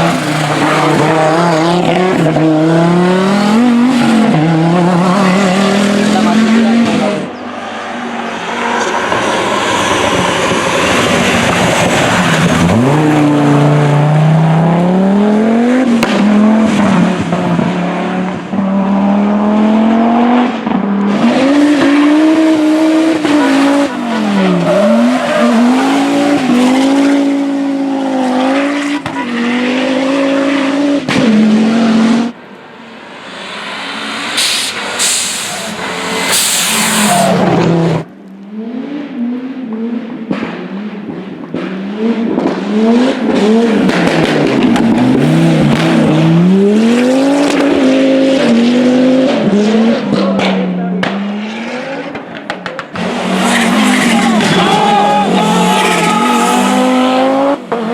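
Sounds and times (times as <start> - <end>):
rally car engine revving: 0.0 - 57.9.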